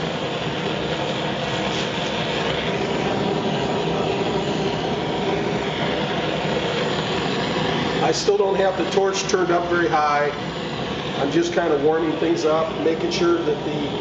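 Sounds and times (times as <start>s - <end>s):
propane torch hissing: 0.0s - 14.0s.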